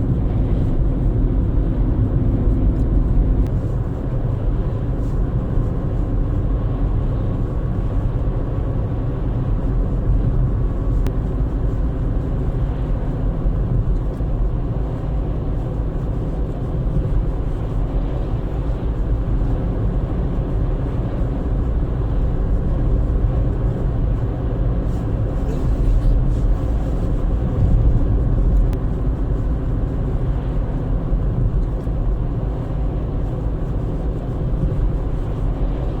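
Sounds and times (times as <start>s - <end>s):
car engine and tyre noise: 0.0s - 36.0s.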